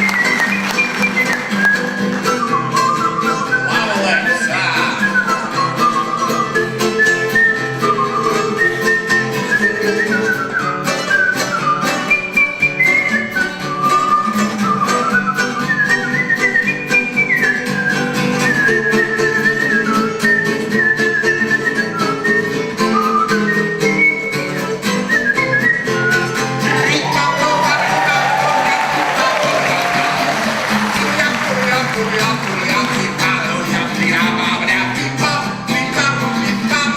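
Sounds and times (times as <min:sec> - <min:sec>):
whistled melody: 0:00.0 - 0:36.6
guitar accompaniment: 0:00.0 - 0:36.9.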